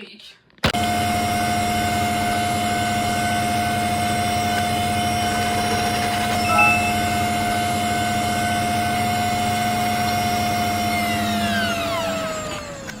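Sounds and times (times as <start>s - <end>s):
mechanical whine with hum: 0.7s - 13.0s.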